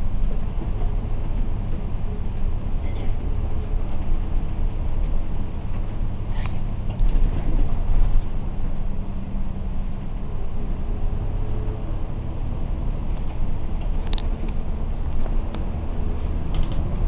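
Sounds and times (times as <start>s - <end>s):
bus engine running: 0.0s - 17.0s
road noise: 0.0s - 17.0s.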